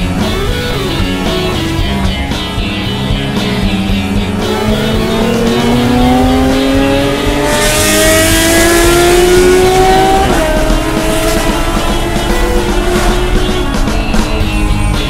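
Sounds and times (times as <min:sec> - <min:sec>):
wind and road noise: 0:00.0 - 0:15.0
race car engine accelerating: 0:02.8 - 0:15.0.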